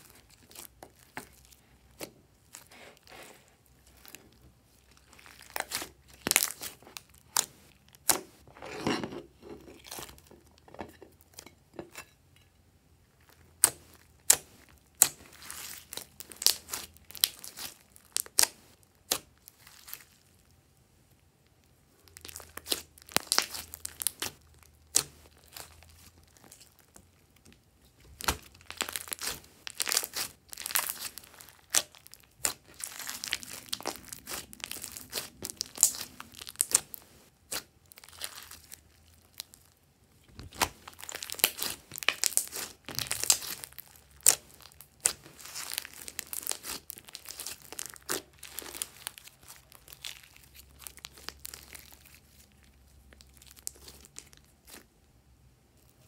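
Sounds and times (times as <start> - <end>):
slime crackling and tearing: 0.0 - 8.4, 13.2 - 20.5, 22.0 - 54.9.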